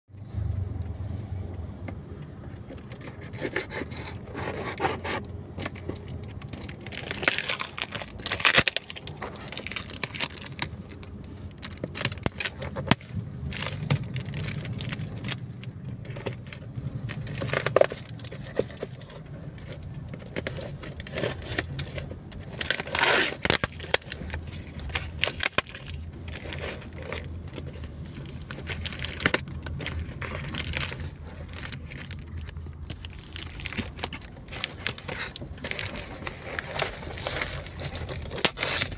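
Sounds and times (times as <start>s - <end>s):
car hum: 0.1s - 38.9s
plastic wrap crinkling and tearing: 5.5s - 38.9s.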